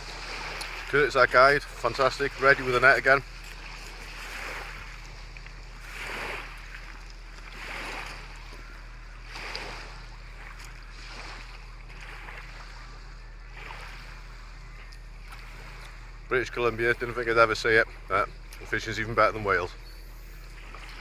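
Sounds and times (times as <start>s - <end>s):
small waves lapping at shore: 0.0s - 21.0s
steady low hum: 0.0s - 21.0s.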